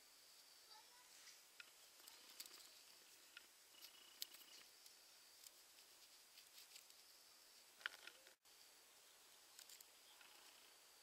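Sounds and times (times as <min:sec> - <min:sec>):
faint high hiss: 0:00.0 - 0:11.0
seed head rustling and ticking: 0:00.4 - 0:08.4, 0:09.4 - 0:11.0.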